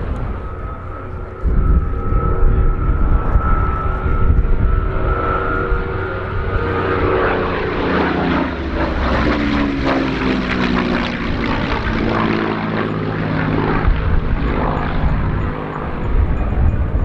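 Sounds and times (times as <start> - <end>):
propeller aircraft engine passing overhead: 0.0 - 17.0.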